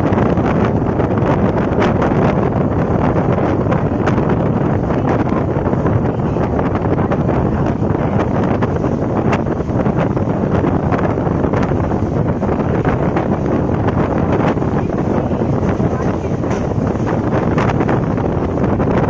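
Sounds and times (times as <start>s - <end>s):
train wheels rumbling on track: 0.0s - 19.0s
wind buffeting microphone: 0.0s - 19.0s.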